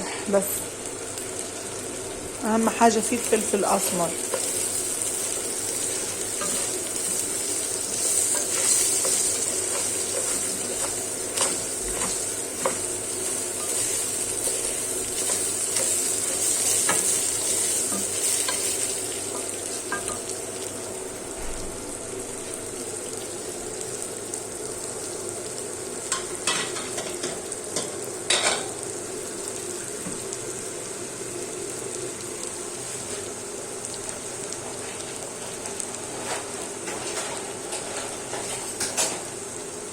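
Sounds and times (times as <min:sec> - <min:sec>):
rice sizzling in hot fat: 0:00.0 - 0:39.9.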